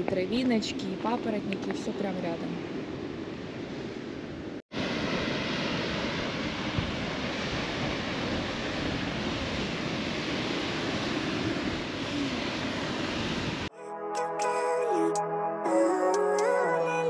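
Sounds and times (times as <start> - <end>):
rushing wind: 0.0 - 13.7.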